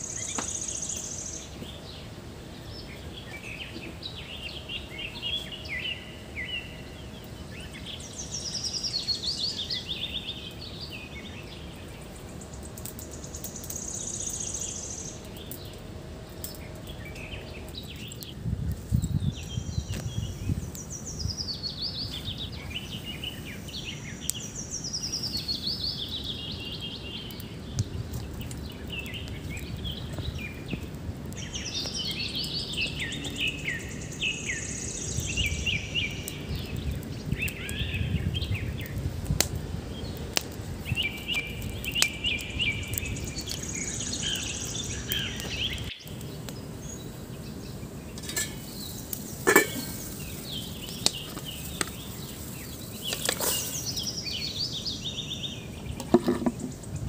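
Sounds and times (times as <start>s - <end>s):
bird singing: 0.0s - 39.0s, 40.8s - 57.0s
steady outdoor hiss: 0.0s - 57.0s.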